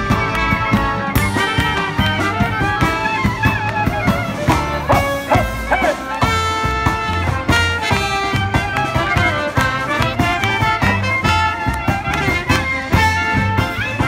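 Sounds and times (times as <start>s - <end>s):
upright bass: 0.0s - 14.0s
clarinet melody: 0.5s - 14.0s
drum kit beat: 1.4s - 13.8s.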